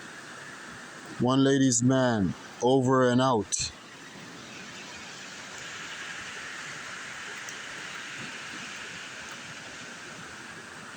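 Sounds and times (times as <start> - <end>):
water rushing over waterfall: 0.0 - 10.9.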